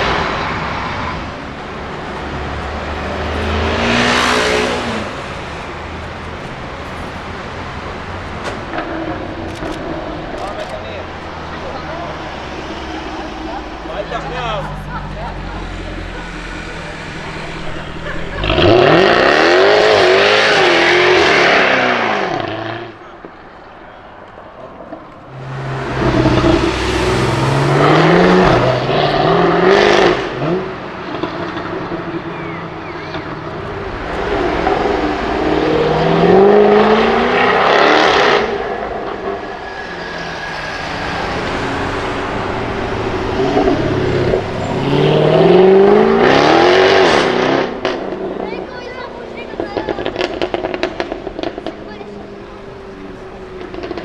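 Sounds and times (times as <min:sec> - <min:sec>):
falling sweep: 0:00.0 - 0:30.6, 0:32.6 - 0:48.0
car engine accelerating hard: 0:00.0 - 0:54.0.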